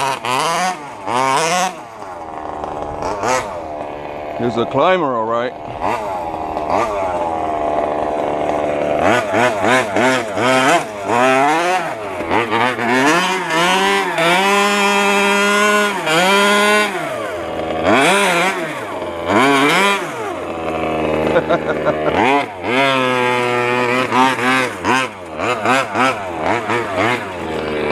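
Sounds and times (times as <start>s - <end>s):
small two-stroke engine revving: 0.0s - 27.9s.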